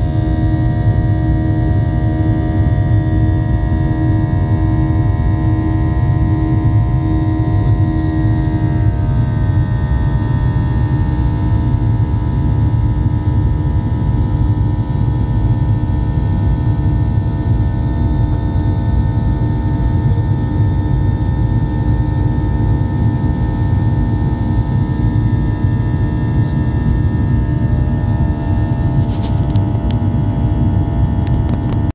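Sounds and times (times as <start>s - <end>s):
jet engine cabin rumble: 0.0s - 31.9s.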